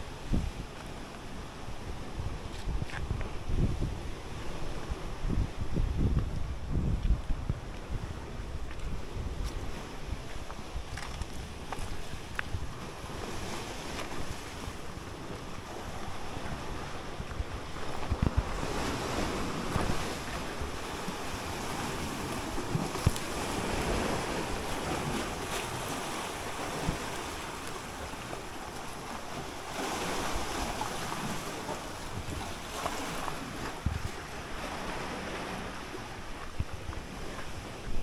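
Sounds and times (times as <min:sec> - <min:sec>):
sea waves on rocky shore: 0:00.0 - 0:38.0
wind buffeting microphone: 0:00.0 - 0:38.0.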